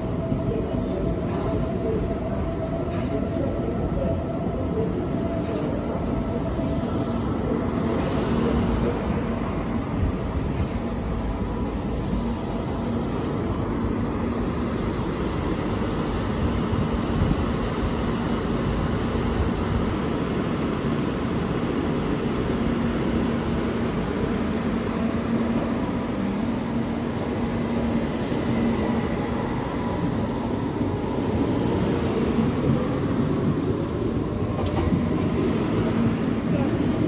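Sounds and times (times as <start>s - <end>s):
trains rumbling: 0.0s - 37.0s.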